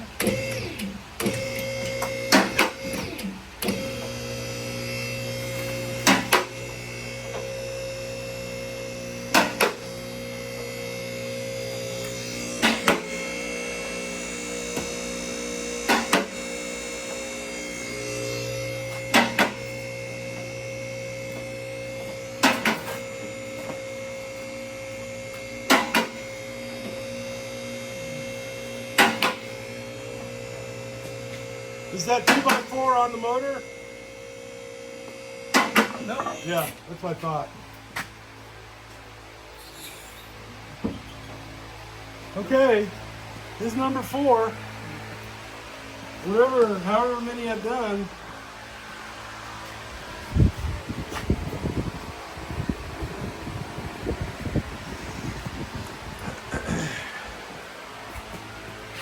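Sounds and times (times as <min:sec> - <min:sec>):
vehicle lift motor humming: 0:00.0 - 0:59.0.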